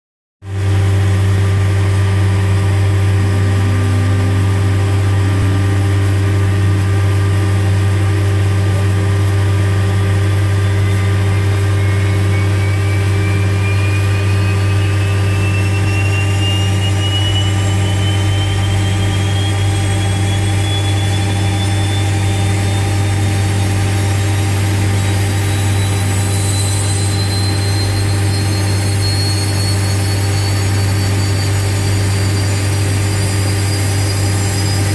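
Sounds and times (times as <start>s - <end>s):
turbine whine rising in pitch: 0.4s - 34.9s
low hum: 0.5s - 34.9s.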